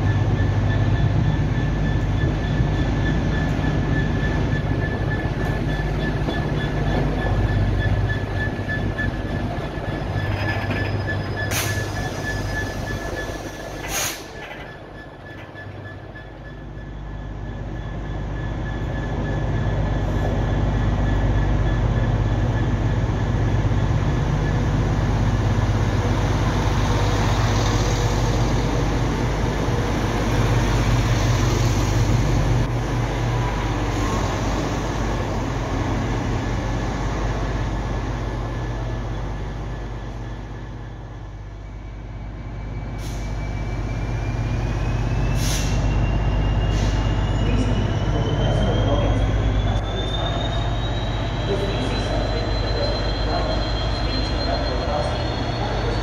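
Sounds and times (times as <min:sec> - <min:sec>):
diesel locomotive engine hum: 0:00.0 - 0:56.0
passing diesel train: 0:00.0 - 0:56.0.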